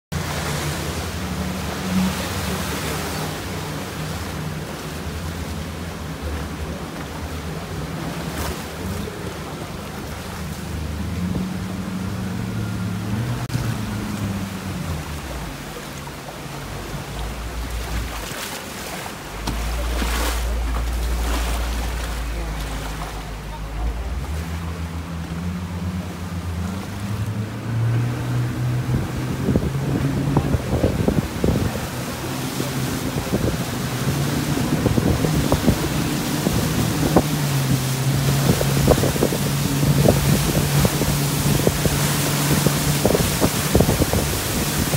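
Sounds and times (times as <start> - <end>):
water churning along hull: 0.0 - 44.9
wind rumble on microphone: 0.1 - 15.8, 19.3 - 44.9
motorboat engine humming: 0.1 - 44.9.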